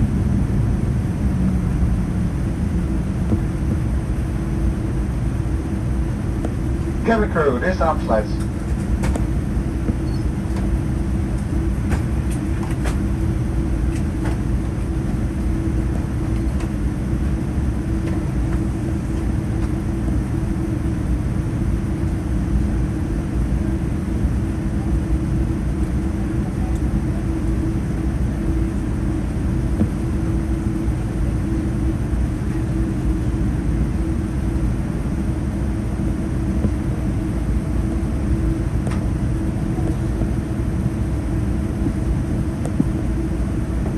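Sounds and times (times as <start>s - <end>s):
airplane cabin rumble: 0.0s - 43.9s
constant hum: 0.0s - 43.9s.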